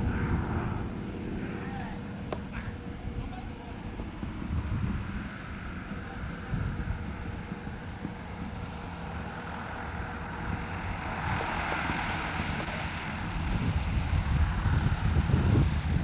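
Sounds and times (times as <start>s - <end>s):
airplane engine and propeller drone: 0.0s - 16.0s
wind buffeting microphone: 0.0s - 16.0s.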